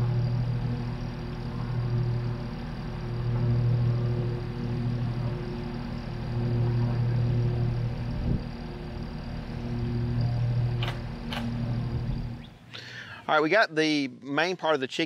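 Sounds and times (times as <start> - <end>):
tractor diesel engine running: 0.0 - 12.7.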